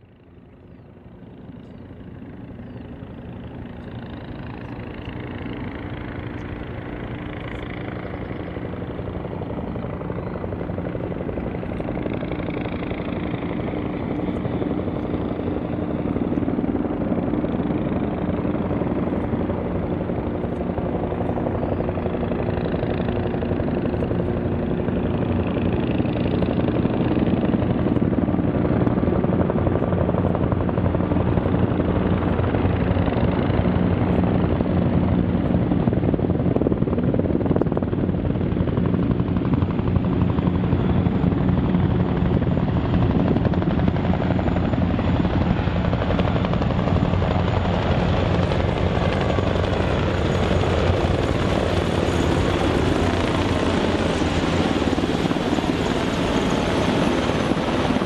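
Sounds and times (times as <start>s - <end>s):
helicopter rotor and turbine noise: 0.0s - 58.0s.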